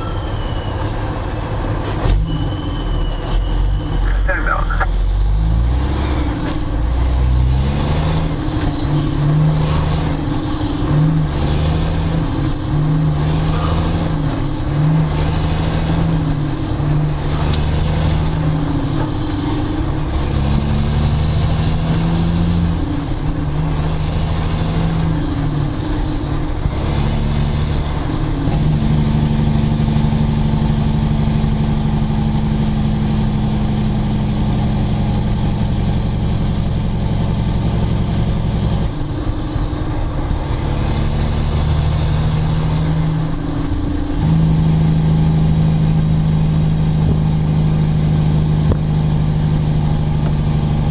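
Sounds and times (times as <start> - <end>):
diesel truck engine pulling hard: 0.0 - 50.9.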